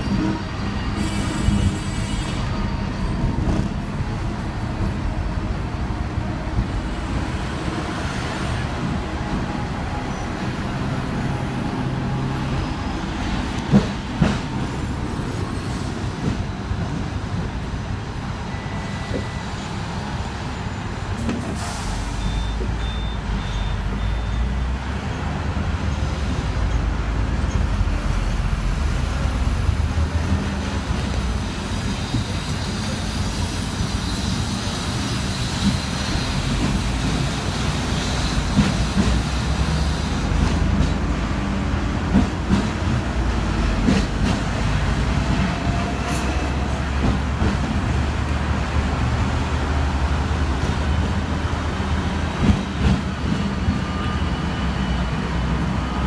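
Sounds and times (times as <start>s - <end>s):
bus and car traffic: 0.0s - 56.0s
tram rumbling on rails: 0.0s - 56.0s.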